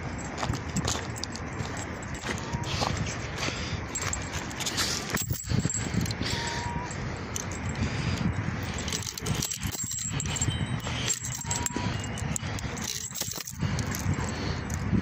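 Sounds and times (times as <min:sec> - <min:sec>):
rustling handling noise: 0:00.0 - 0:14.9
leash metal fittings jangling: 0:00.0 - 0:15.0.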